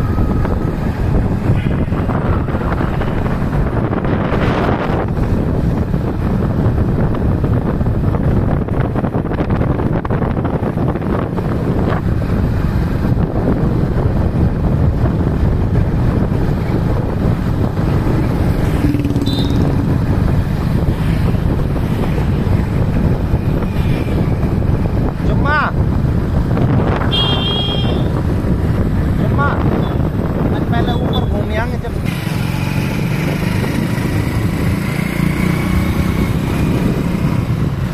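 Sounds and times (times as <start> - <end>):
low rumble of travel: 0.0 - 37.9
wind buffeting microphone: 0.0 - 37.9.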